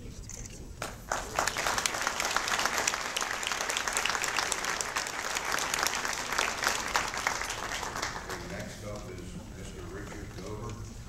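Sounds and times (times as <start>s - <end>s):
audience applauding: 0.8s - 10.6s.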